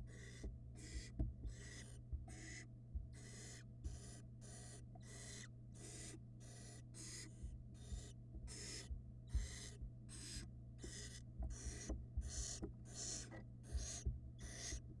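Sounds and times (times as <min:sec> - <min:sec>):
low electrical hum: 0:00.0 - 0:15.0
owl chicks hissing begging calls: 0:00.1 - 0:14.8.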